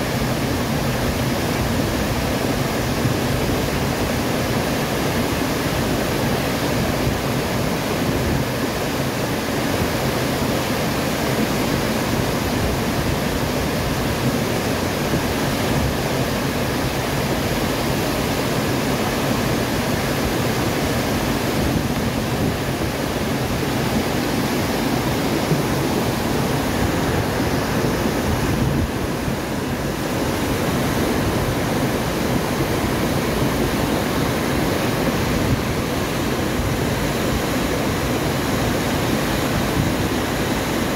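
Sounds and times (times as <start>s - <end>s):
floodwater rushing down concrete channel: 0.0s - 40.9s.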